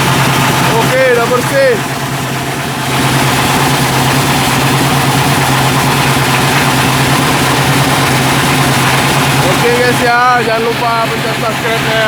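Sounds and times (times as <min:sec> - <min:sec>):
grinding machine motor hum: 0:00.0 - 0:12.0.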